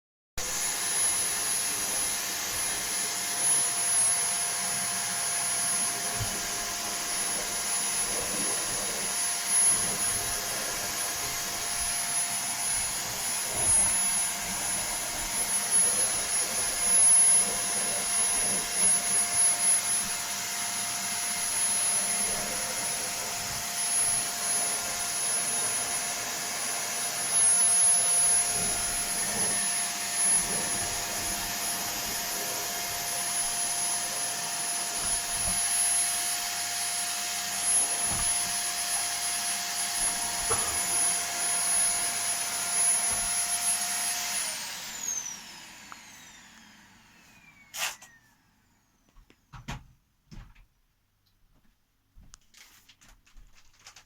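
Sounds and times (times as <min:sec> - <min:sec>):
vacuum cleaner running: 0:00.4 - 0:49.1.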